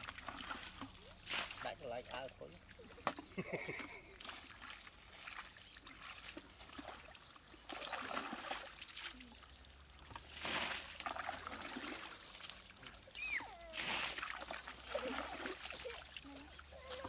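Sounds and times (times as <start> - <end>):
muddy water sloshing and splashing: 0.0 - 17.0.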